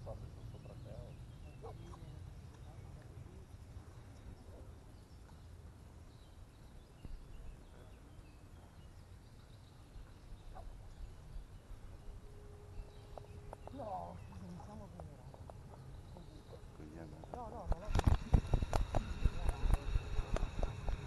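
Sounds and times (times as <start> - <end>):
faint bird chirps: 0.0 - 21.0
low microphone rumble: 0.0 - 21.0.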